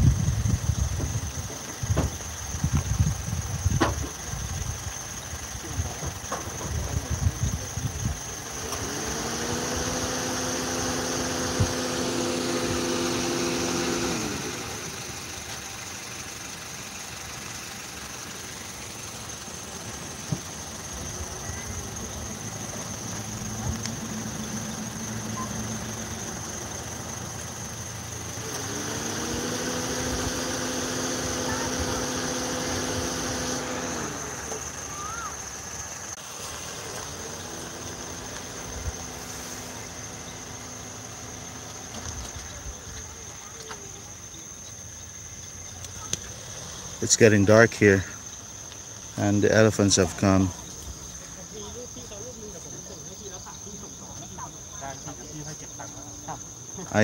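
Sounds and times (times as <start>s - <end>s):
vehicle engine revving: 0.0s - 52.2s.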